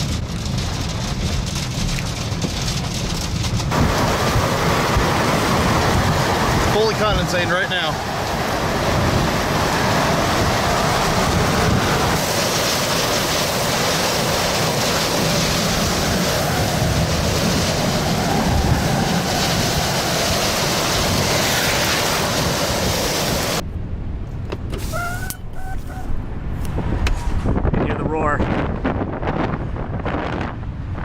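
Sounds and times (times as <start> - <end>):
strong wind on microphone: 0.0 - 31.0.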